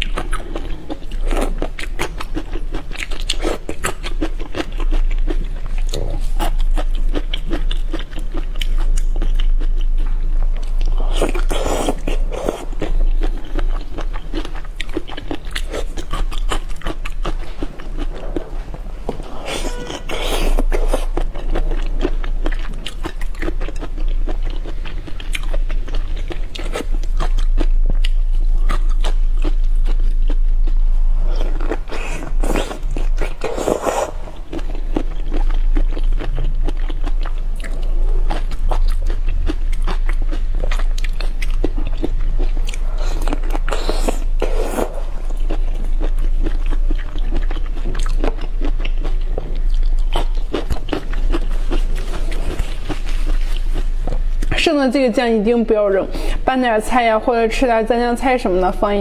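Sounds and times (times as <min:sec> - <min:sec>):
person chewing prawns: 0:00.0 - 0:54.5
steady low hum: 0:00.0 - 0:59.0.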